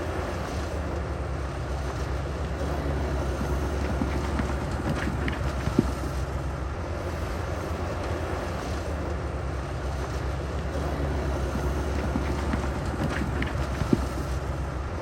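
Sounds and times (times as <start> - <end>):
diesel engine low rumble: 0.0 - 15.0.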